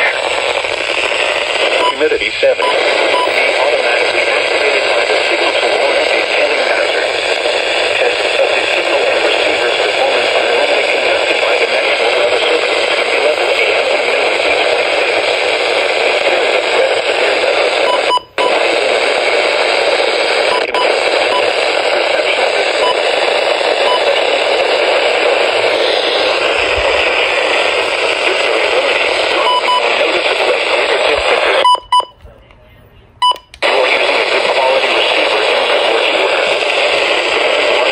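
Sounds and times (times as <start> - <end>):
radio static hiss: 0.0 - 37.9.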